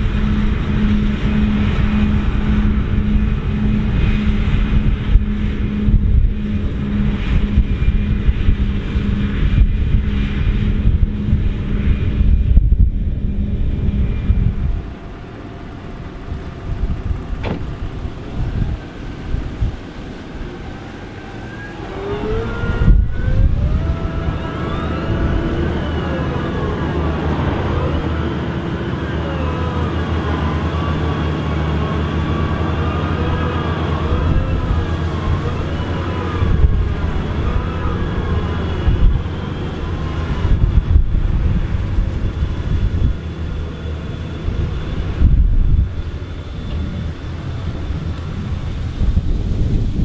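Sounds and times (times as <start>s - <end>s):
tractor engine revving: 0.0s - 50.0s.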